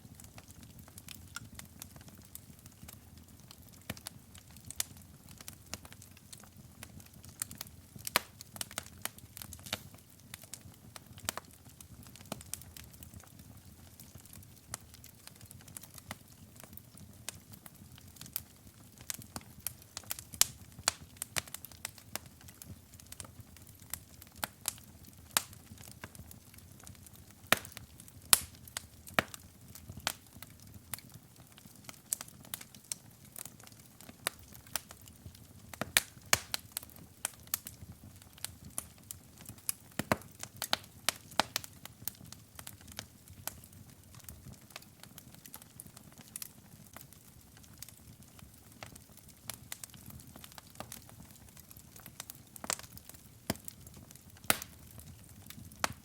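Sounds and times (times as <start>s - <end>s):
fire pops and snaps: 0.1s - 56.0s.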